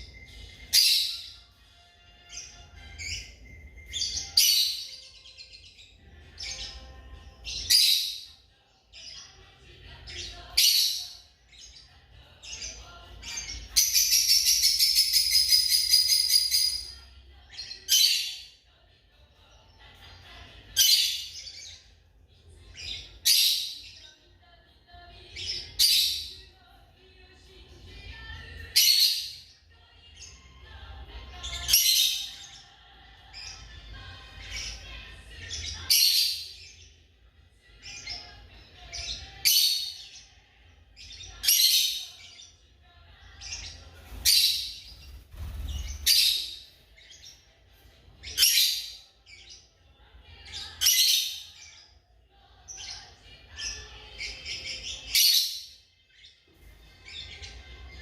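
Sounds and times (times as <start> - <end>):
birds chattering: 0.0 - 24.0, 24.7 - 58.0.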